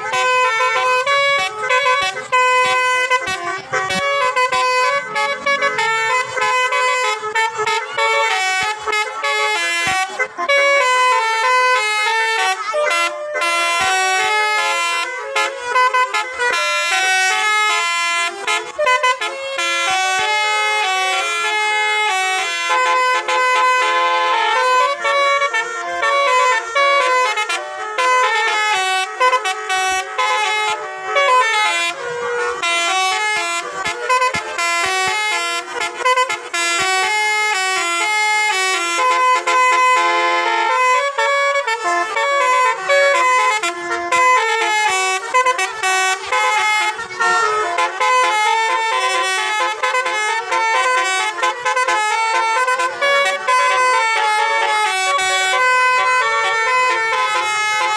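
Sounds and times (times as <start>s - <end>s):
multi-tone bus horn melody: 0.0s - 57.9s.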